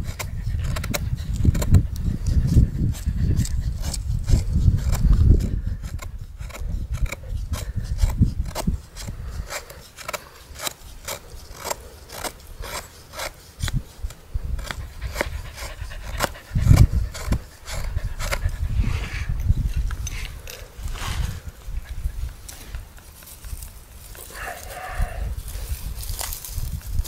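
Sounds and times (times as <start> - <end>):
knife scraping wood: 0.0 - 24.8.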